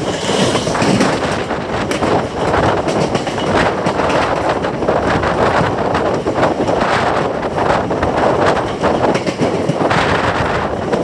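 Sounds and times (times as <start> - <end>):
train wheels rattling over rails: 0.0 - 11.0.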